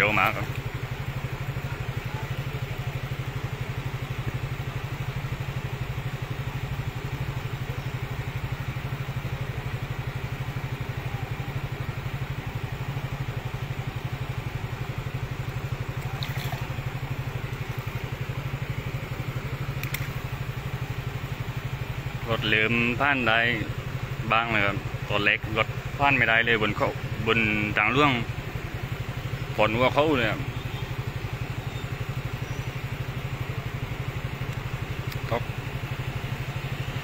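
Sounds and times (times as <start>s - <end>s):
small motorcycle engine running: 0.0s - 37.0s.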